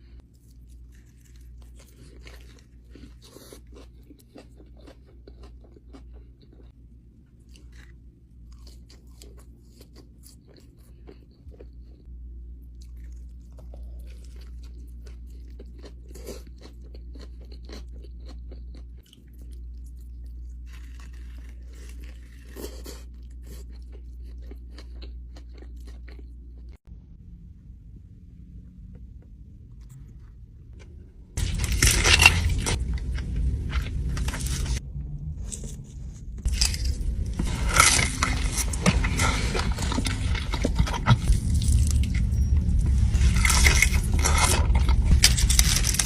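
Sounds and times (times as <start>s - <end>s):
person eating crispy food: 0.0s - 6.8s, 7.4s - 12.1s, 12.7s - 26.8s, 29.8s - 34.8s, 35.4s - 46.0s
steady low hum: 0.0s - 46.0s.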